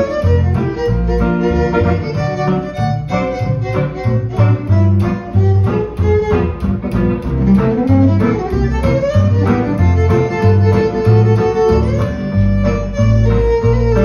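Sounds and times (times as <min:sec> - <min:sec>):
bass: 0:00.0 - 0:14.0
rhythm guitar chords: 0:00.0 - 0:14.0
violin melody: 0:00.0 - 0:14.0.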